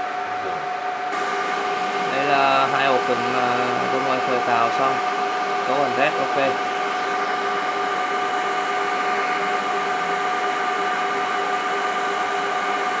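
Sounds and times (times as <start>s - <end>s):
server cooling fans whining: 0.0s - 13.0s.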